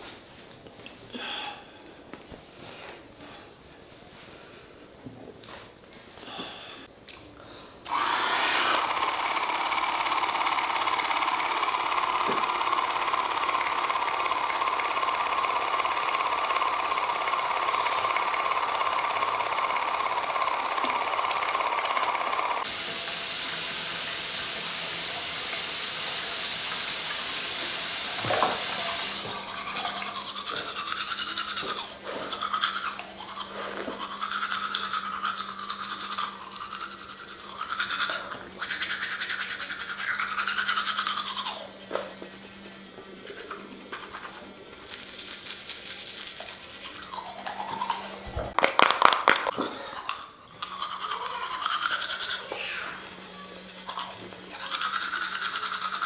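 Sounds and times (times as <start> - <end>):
small electric motor buzzing: 7.9 - 48.6, 50.0 - 56.0.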